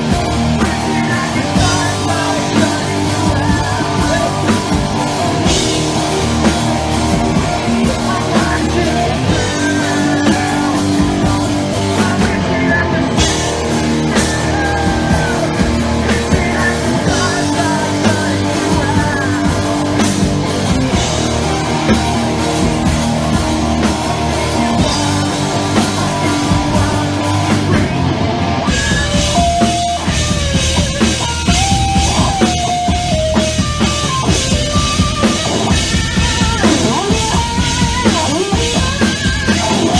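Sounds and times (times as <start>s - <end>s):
drum kit: 0.0s - 39.9s
electric guitars: 0.0s - 39.9s
rock band playing: 0.0s - 39.9s.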